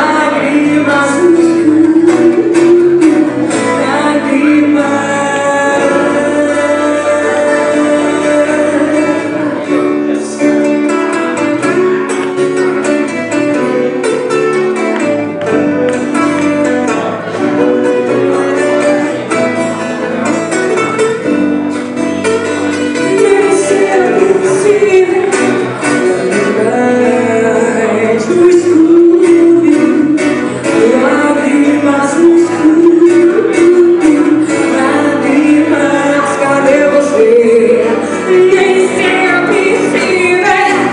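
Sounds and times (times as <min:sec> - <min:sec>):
acoustic guitars strumming: 0:00.0 - 0:40.9
person singing: 0:00.0 - 0:40.9.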